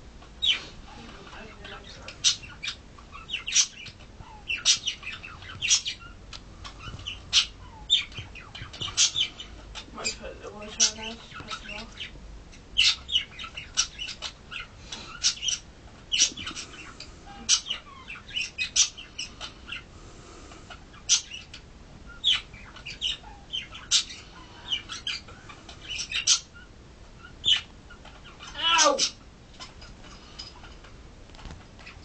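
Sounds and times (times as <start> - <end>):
small animal chirping and squeaking: 0.4 - 19.9, 20.7 - 30.8.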